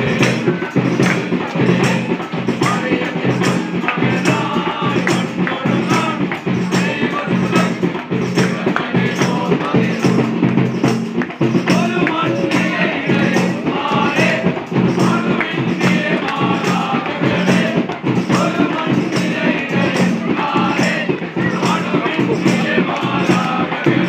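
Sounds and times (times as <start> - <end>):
group singing a carol: 0.0 - 24.0
tambourine shaken and struck: 0.0 - 24.0.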